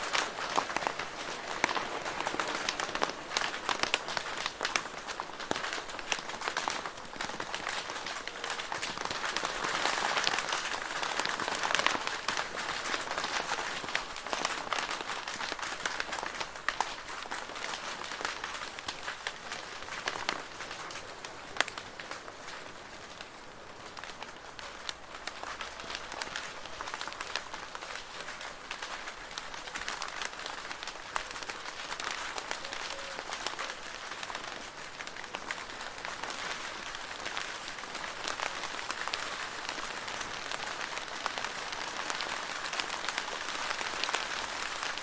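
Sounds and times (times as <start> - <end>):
rain on a plastic roof: 0.0 - 45.0.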